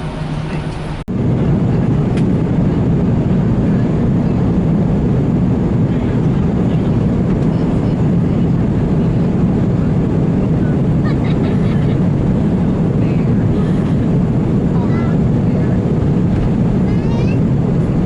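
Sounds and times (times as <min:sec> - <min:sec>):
airliner cabin engine roar: 0:00.0 - 0:18.0.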